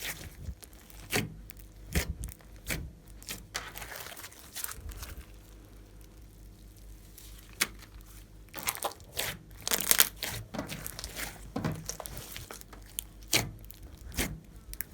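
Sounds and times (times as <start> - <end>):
slime squishing and crackling: 0.0 - 14.9.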